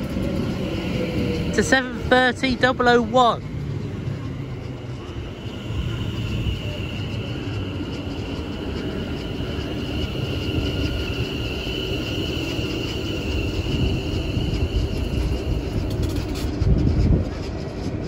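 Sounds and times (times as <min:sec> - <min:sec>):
electric train whine: 0:00.0 - 0:18.0
train wheels rumbling: 0:00.0 - 0:18.0.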